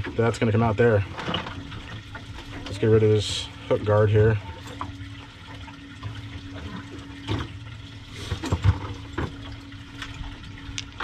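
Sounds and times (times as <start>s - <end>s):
water sloshing against boat hull: 0.0s - 11.0s.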